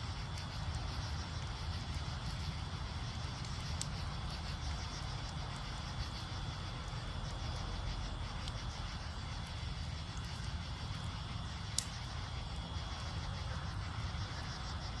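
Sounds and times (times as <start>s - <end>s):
faint insect trill: 0.0s - 15.0s
fire burning: 0.0s - 15.0s
fire popping: 0.0s - 15.0s.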